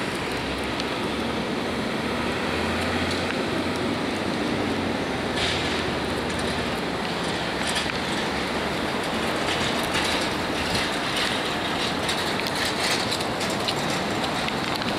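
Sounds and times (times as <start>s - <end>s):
road traffic noise: 0.0s - 14.9s.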